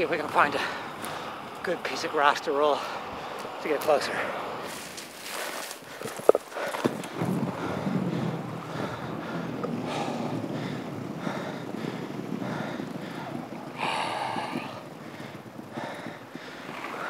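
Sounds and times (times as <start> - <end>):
skate wheels rolling on wood: 0.0 - 17.0
wind on microphone: 2.9 - 17.0.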